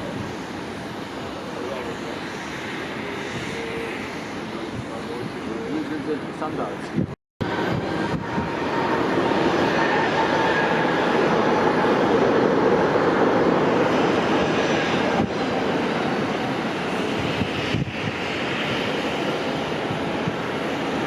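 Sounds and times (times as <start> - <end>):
jet airliner engine noise: 0.0 - 21.0.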